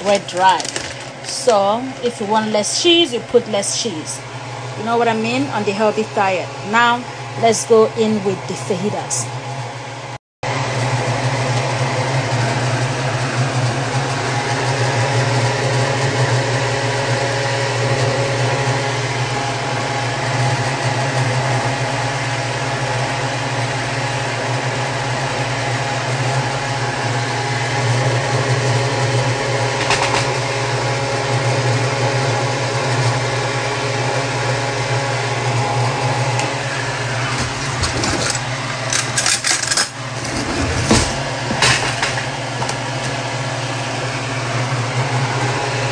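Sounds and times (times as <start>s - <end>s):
mechanical hum with low drone: 0.0s - 45.9s.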